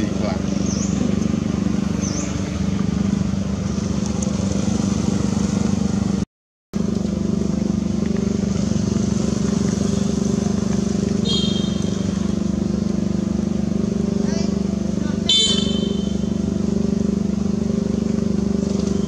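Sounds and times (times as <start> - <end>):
small engine humming: 0.0 - 6.2, 6.8 - 19.0.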